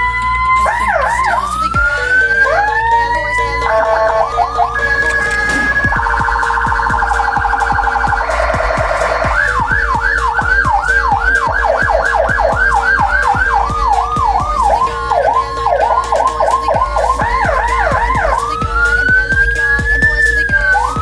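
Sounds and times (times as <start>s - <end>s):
electronic vehicle siren: 0.0s - 21.0s.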